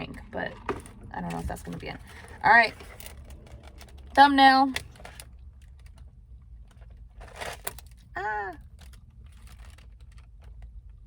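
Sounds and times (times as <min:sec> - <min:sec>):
food packaging rustling: 0:00.7 - 0:04.1, 0:04.8 - 0:11.0.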